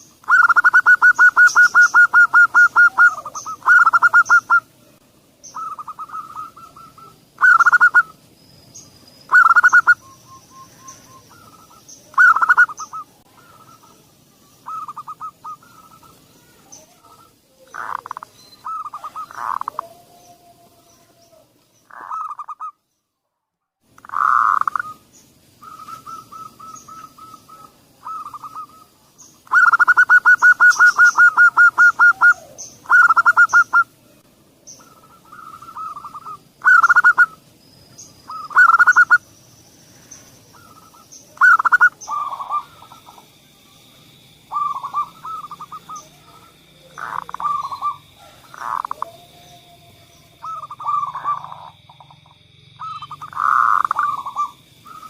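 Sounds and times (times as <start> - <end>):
doves cooing: 0.0 - 22.8, 24.0 - 55.0
small birds chirping: 0.0 - 23.2, 23.9 - 55.0.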